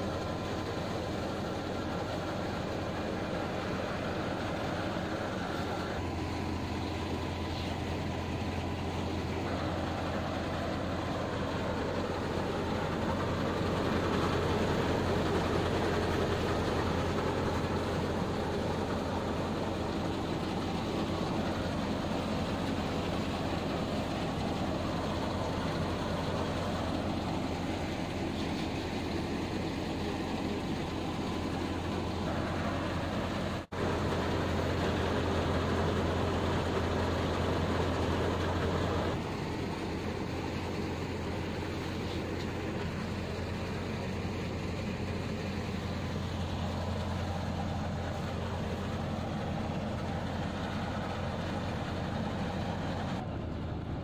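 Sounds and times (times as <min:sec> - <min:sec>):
thresher running: 0:00.0 - 0:54.0.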